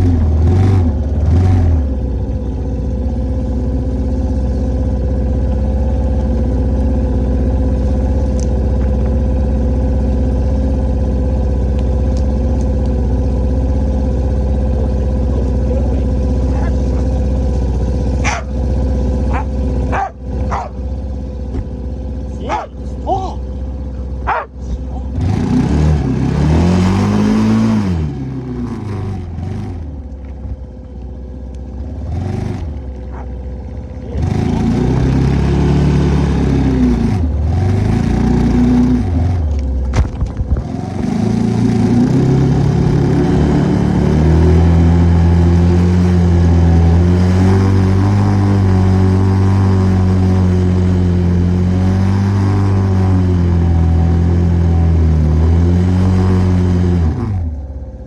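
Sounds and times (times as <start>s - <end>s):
atv engine revving: 0.0s - 30.8s, 31.4s - 58.0s.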